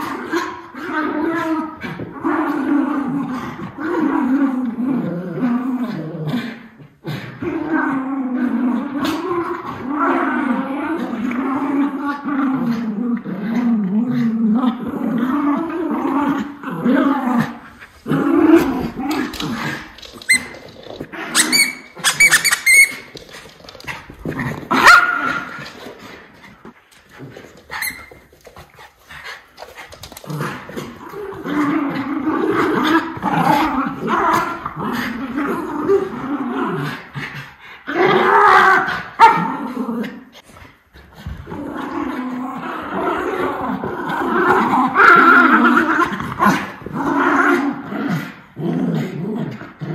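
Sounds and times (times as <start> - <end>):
dogs play-growling: 0.0 - 49.9.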